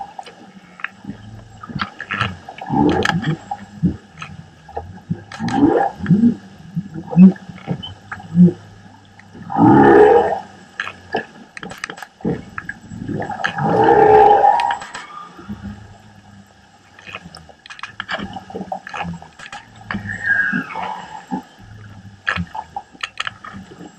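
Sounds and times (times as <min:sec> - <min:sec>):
underwater clicks: 0:00.0 - 0:23.9
whale song underwater: 0:00.0 - 0:23.9.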